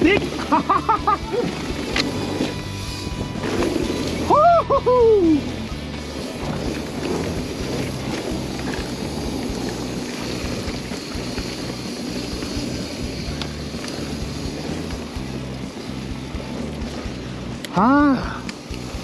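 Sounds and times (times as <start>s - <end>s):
background music with bass line: 0.0s - 19.0s
bike tyre noise on dirt: 0.0s - 19.0s.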